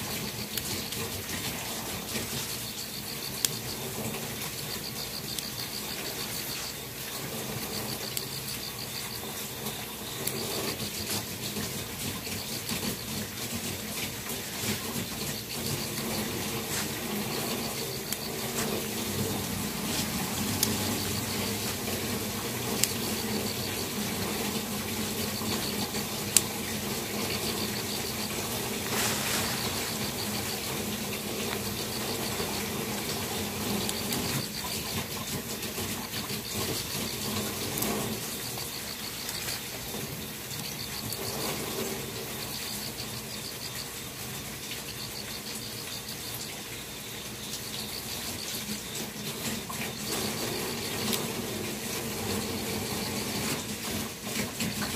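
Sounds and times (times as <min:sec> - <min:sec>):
insects chirping in high trills: 0:00.0 - 0:54.9.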